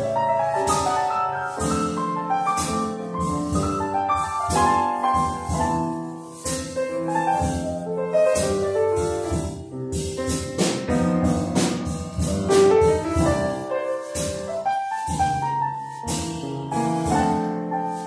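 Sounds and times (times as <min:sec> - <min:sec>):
jazz piano: 0:00.0 - 0:18.0.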